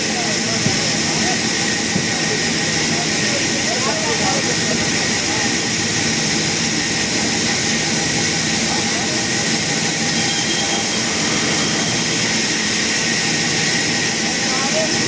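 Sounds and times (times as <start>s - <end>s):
sawmill saw whining: 0.0s - 15.0s.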